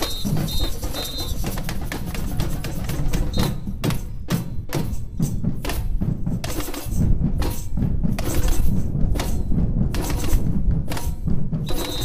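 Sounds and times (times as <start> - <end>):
sharp hand percussion: 0.0 - 12.0.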